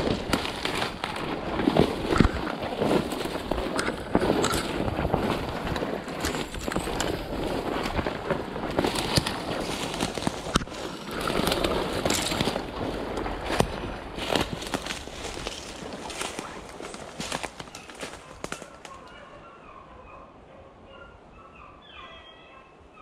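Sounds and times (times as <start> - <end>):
branches scraping past: 0.0 - 19.1
footsteps crunching through dry leaves: 0.0 - 19.1
twigs snapping: 0.0 - 19.2.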